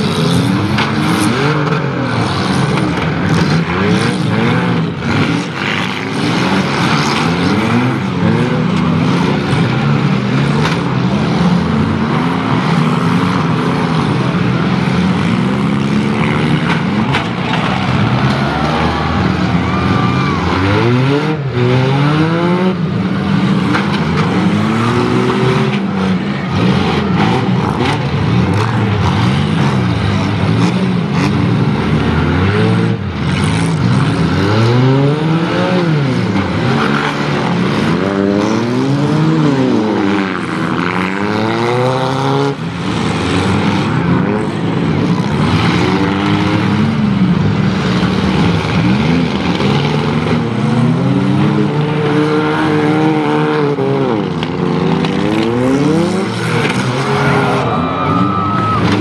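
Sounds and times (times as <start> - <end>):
car engines revving: 0.0 - 59.0
cars ramming each other: 0.0 - 59.0.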